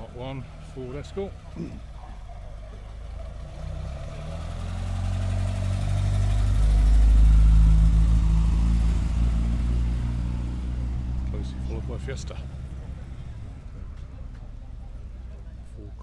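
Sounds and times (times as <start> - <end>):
car engine driving past: 0.0 - 16.0.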